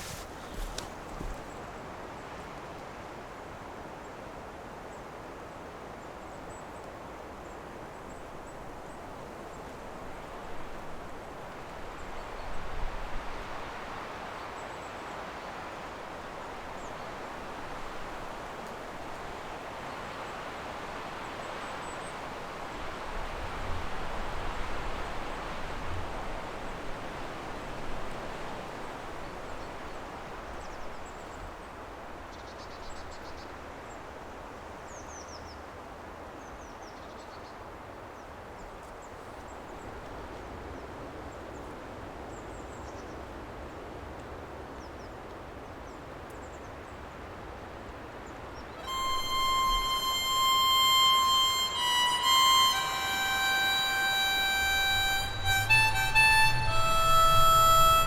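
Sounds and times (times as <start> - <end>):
wind through trees: 0.0 - 58.0.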